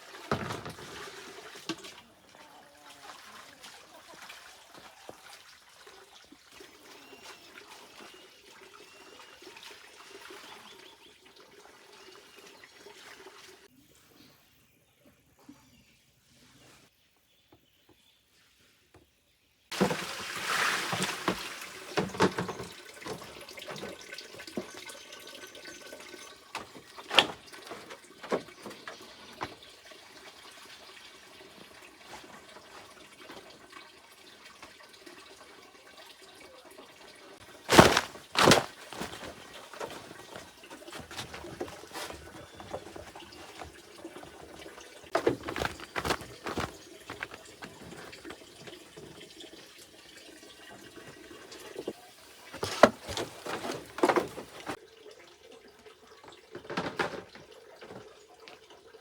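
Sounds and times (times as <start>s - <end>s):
water running and splashing: 0.0s - 13.7s, 19.7s - 59.0s.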